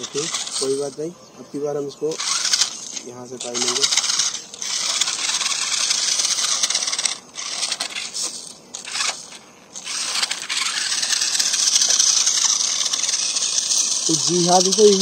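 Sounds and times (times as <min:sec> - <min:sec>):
toy car electric motor whining: 0:00.0 - 0:01.0, 0:02.1 - 0:15.0.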